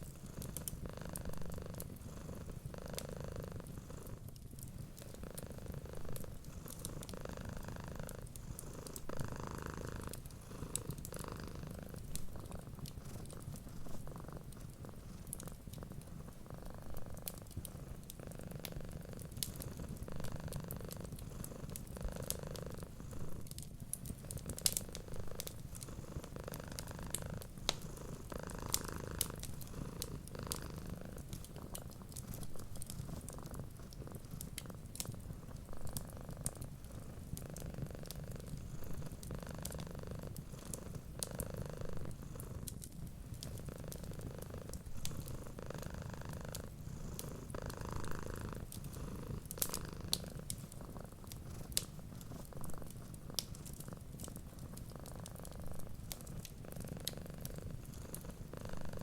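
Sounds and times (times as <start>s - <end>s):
wood fire crackling: 0.0s - 2.6s, 3.5s - 59.0s
cat purring: 0.0s - 59.0s.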